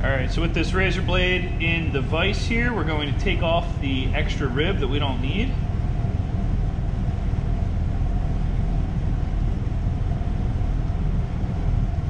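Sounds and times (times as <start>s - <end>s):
faint constant hum: 0.0s - 12.0s
low machine rumble: 0.0s - 12.0s.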